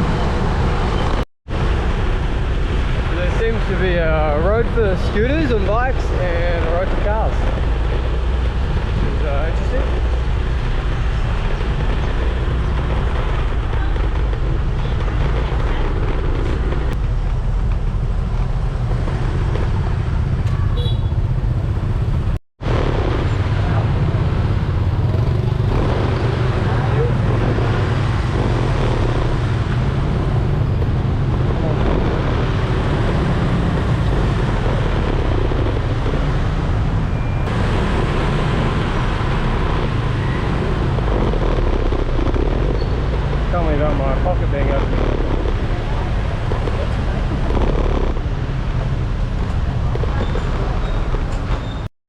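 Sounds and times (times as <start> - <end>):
scooter engine and road noise: 0.0 - 51.9
traffic vehicles: 0.0 - 51.9.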